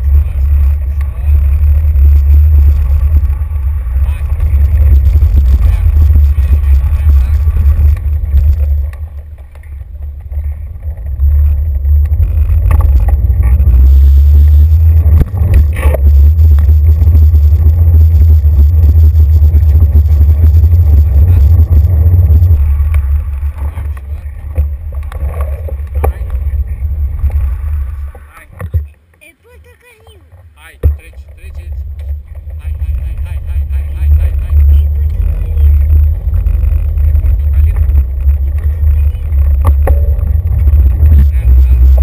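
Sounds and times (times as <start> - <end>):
bicycle tyre rolling rumble: 0.0 - 28.7, 30.3 - 42.0.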